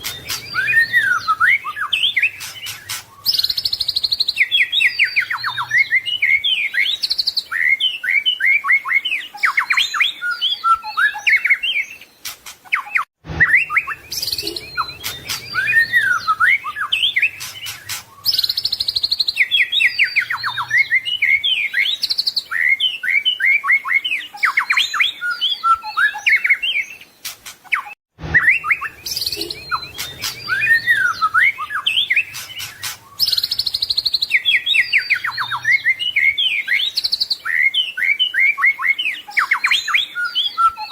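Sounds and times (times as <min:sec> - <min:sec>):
songbird singing whistles and trills: 0:00.0 - 0:40.9.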